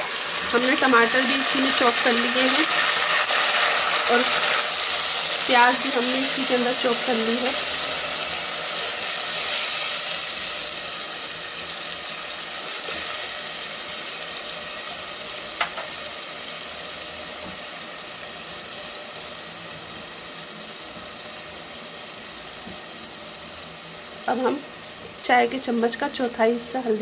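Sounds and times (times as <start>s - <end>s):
masala sizzling in hot oil: 0.0s - 27.0s.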